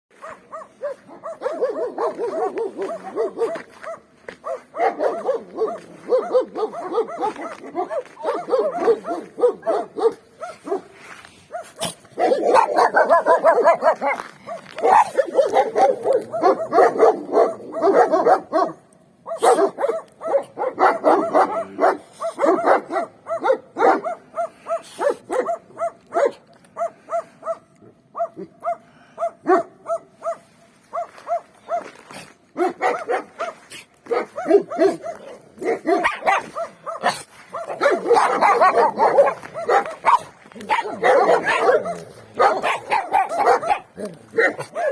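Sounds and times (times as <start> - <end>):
dogs barking: 0.1 - 44.9.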